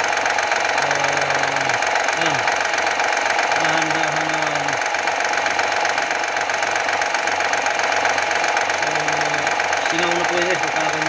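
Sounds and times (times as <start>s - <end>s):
car engine idling: 0.0s - 11.0s
loud steady engine knock: 0.0s - 11.0s.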